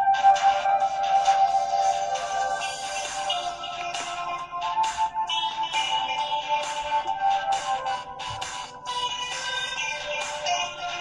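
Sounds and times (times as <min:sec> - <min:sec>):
phone ringtone melody: 0:00.0 - 0:11.0.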